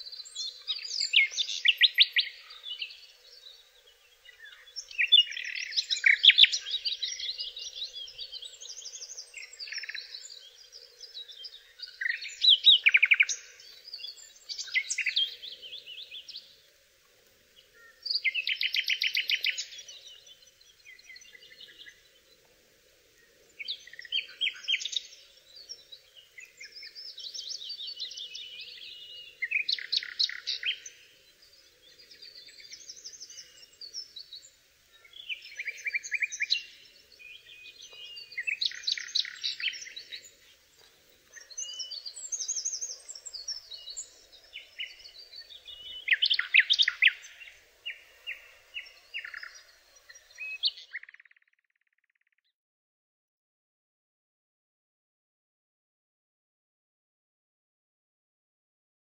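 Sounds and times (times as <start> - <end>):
nightingale singing: 0.0 - 16.7, 17.6 - 22.3, 23.2 - 52.4.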